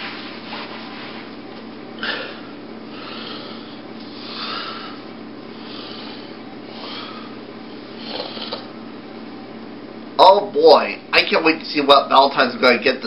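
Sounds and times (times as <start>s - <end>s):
room tone hum: 0.0s - 13.0s.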